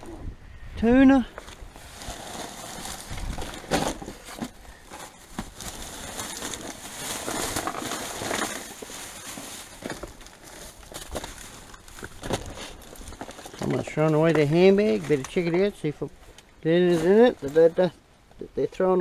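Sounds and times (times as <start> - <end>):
plastic bags rustling: 1.3 - 15.9, 16.7 - 17.5.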